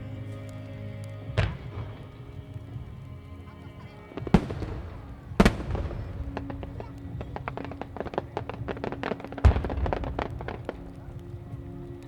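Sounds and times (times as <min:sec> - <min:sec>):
crackling firework pops: 0:00.0 - 0:12.0
firework shells booming: 0:01.3 - 0:12.0.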